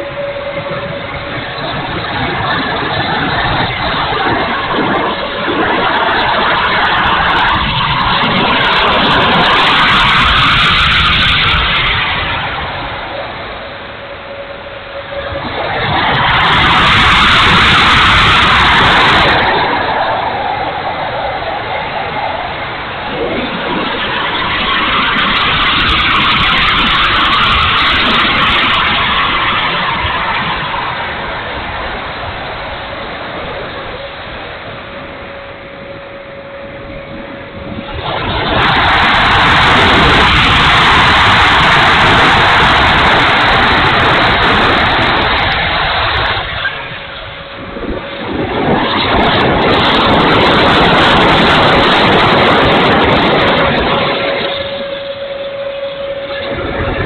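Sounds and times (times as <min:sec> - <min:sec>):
electric ducted fan rushing: 0:00.0 - 0:57.0
wind over airframe: 0:00.0 - 0:57.0.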